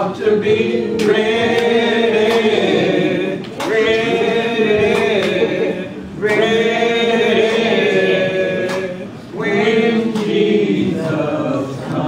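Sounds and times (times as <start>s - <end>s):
man and woman singing a cappella: 0.0s - 12.0s.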